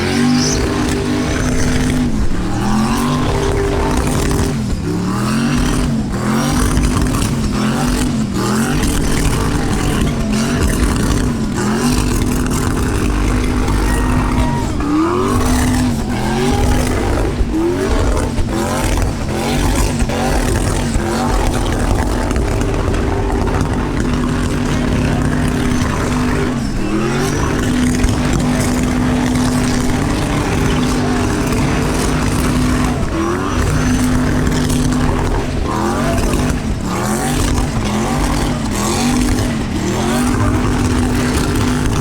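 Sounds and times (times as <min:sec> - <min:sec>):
engine revving in a burnout: 0:00.0 - 0:42.0.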